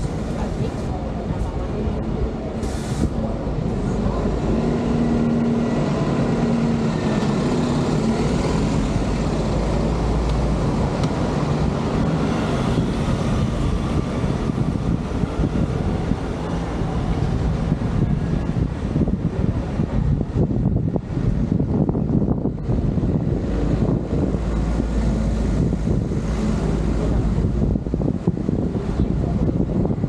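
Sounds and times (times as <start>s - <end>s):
road and wind noise: 0.0s - 30.0s
vehicle engine drone: 0.0s - 30.0s.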